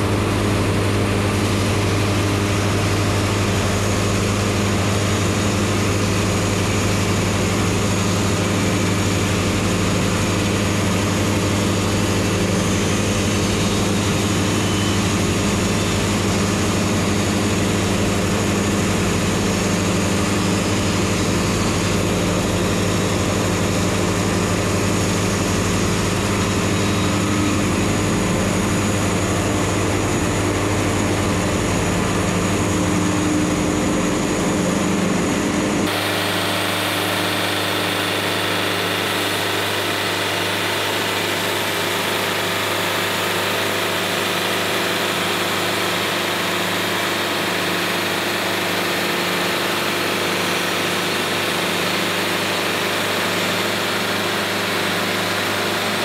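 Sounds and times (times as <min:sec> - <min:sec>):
sawmill engine humming: 0:00.0 - 0:56.0.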